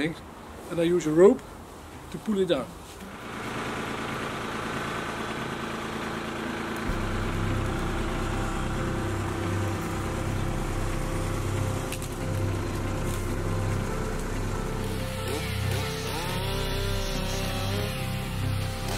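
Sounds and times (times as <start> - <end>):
tractor diesel engine running: 3.1 - 18.9.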